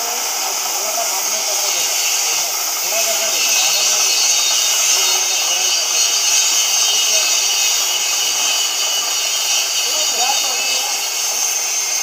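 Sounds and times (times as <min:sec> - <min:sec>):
cutting torch hissing: 0:00.0 - 0:12.0.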